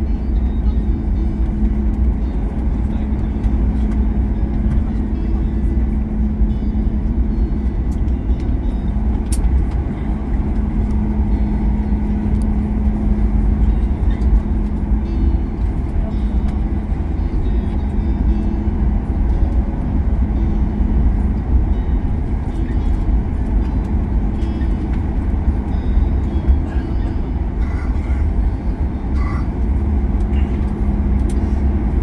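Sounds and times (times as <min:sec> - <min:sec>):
airplane cabin rumble: 0:00.0 - 0:32.0
steady hum: 0:00.0 - 0:32.0.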